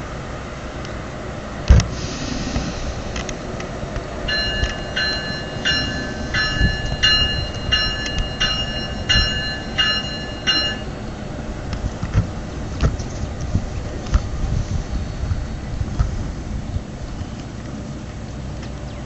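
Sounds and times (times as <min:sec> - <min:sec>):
train low rumble: 0:00.0 - 0:19.0
wind buffeting microphone: 0:00.0 - 0:19.0.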